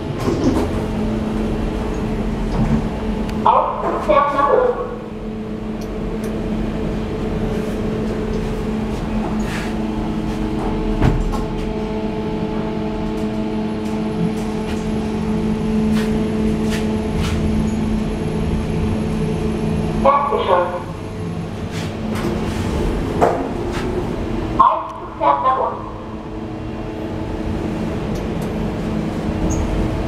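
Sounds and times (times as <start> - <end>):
elevator doors closing: 0.0 - 30.0
elevator hum with held tones: 0.0 - 30.0.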